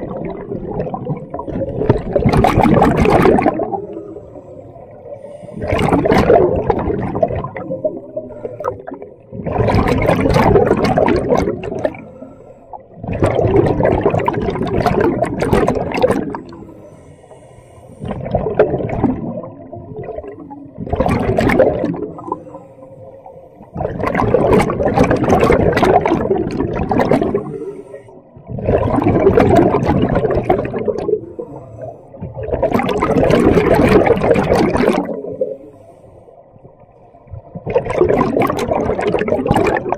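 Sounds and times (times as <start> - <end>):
air bubbling from diver regulator: 0.0 - 39.9.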